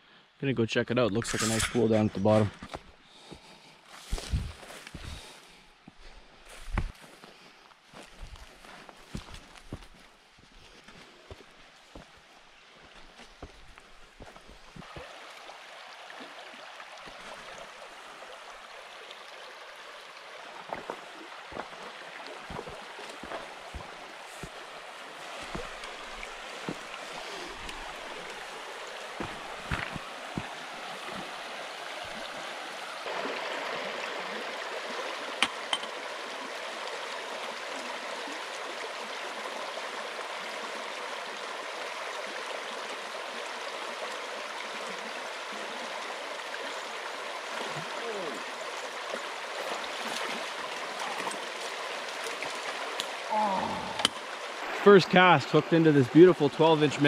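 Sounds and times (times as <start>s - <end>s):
creek water over rocks: 1.0s - 57.0s.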